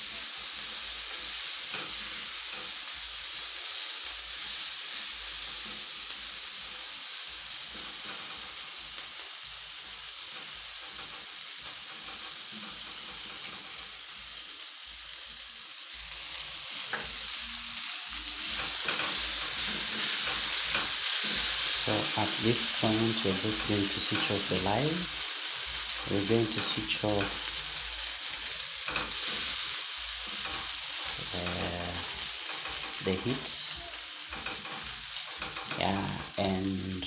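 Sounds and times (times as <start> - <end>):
small fish sizzling in a pan: 0.0 - 37.0.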